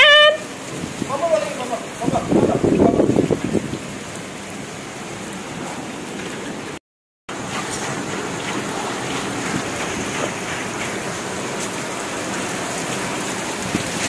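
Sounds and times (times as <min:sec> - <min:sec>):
rain on a concrete roof: 0:00.0 - 0:14.0.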